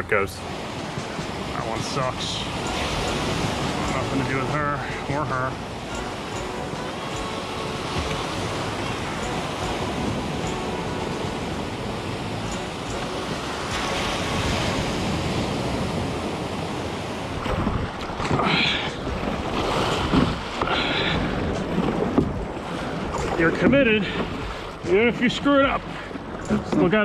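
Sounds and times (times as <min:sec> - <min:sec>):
ocean surf washing: 0:00.0 - 0:27.0
waves splashing on kayak: 0:00.0 - 0:27.0
paddle striking water: 0:00.4 - 0:16.4, 0:17.3 - 0:27.0.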